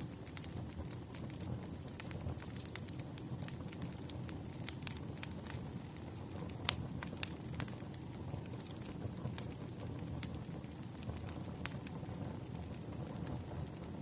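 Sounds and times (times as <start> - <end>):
firewood crackling and popping: 0.0 - 14.0
low rumble of fire: 0.0 - 14.0.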